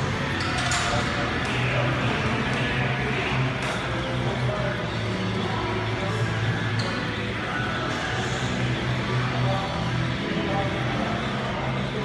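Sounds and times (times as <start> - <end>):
background music over speakers: 0.0 - 12.0.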